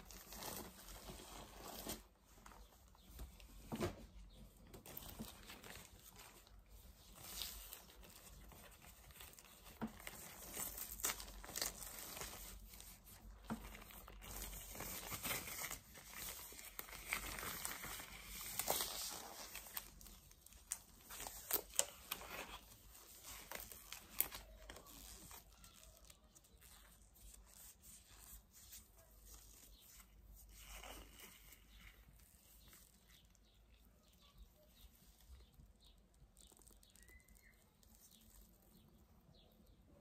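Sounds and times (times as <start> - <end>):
latex glove stretching and rustling: 0.0 - 39.0.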